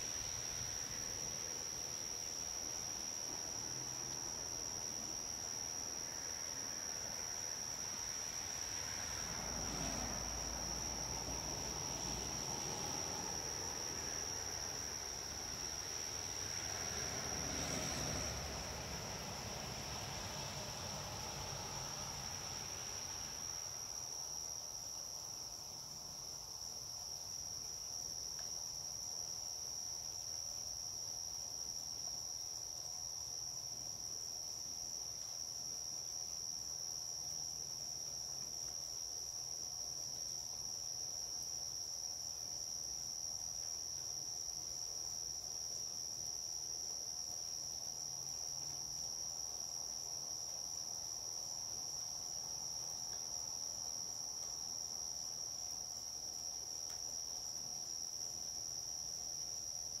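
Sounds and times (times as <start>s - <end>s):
night insects chorus: 0.0s - 60.0s.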